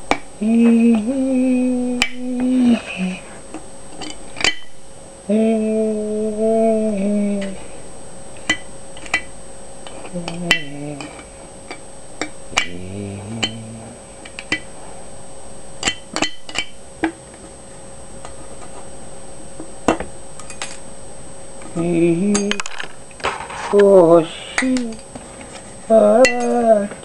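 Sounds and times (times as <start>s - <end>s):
low hummed tones: 0.0s - 27.0s.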